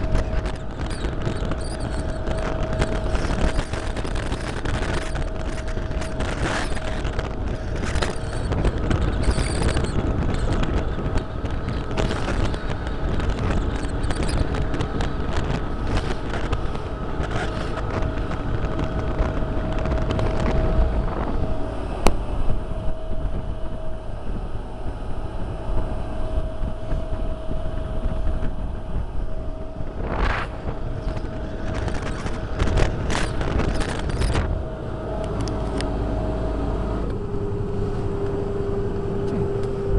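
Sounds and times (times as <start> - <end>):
electric motor whine: 0.0 - 39.9
wind buffeting microphone: 0.0 - 39.9.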